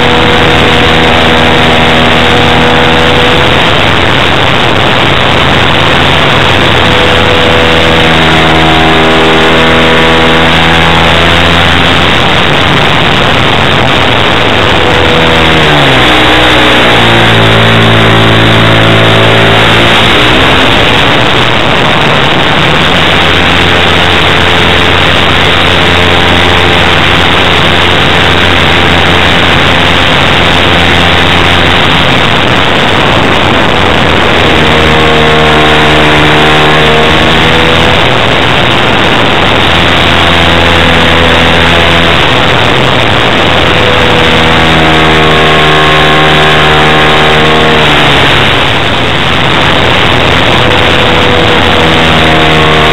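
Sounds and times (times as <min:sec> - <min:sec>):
model aircraft engine running: 0:00.0 - 0:52.9.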